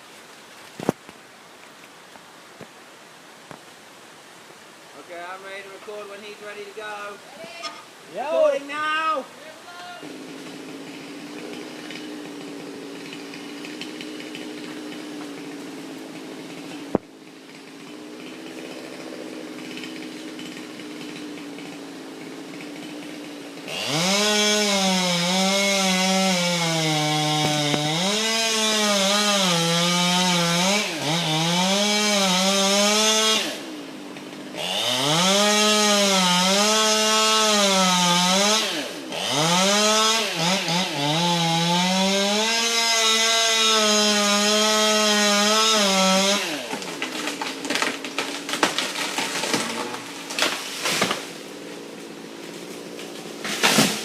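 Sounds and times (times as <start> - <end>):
chainsaw cutting wood: 9.8 - 54.0.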